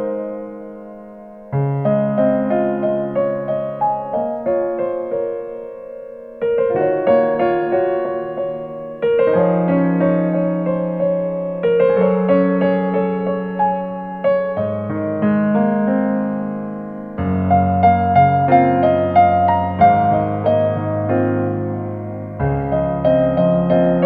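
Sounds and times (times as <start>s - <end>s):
piano chords through loudspeakers: 0.0s - 24.0s.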